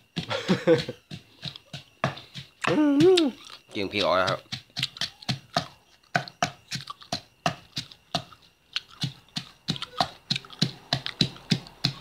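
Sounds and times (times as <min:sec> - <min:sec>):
pestle pounding in mortar: 0:00.0 - 0:12.0.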